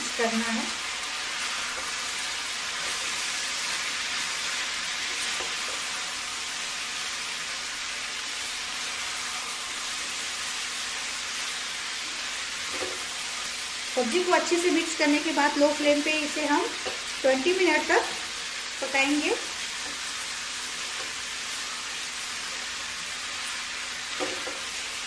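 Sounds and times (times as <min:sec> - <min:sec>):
vegetables sizzling in pan: 0:00.0 - 0:25.0.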